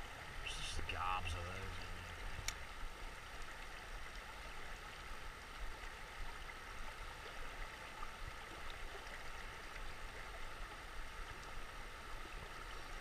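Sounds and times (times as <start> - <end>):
river flowing over riffles: 0.0 - 13.0.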